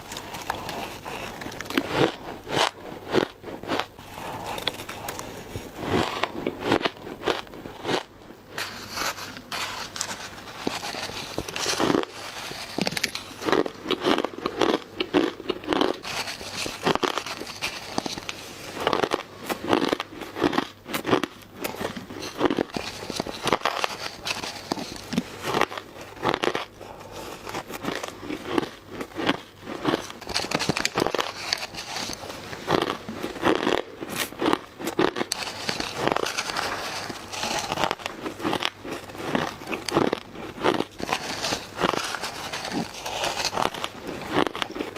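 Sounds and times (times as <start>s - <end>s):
ice being crunched: 0.0s - 44.9s.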